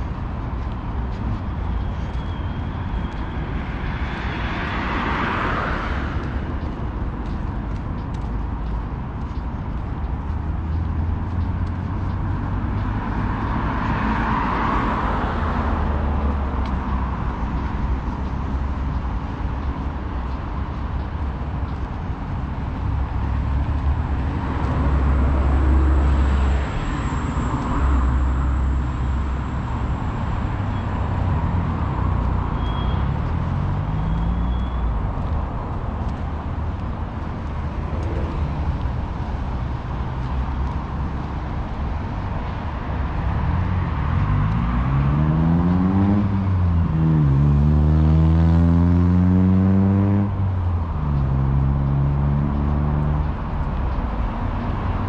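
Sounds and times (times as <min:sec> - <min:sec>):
street traffic: 0:00.0 - 0:55.0
vehicle accelerating: 0:02.1 - 0:55.0.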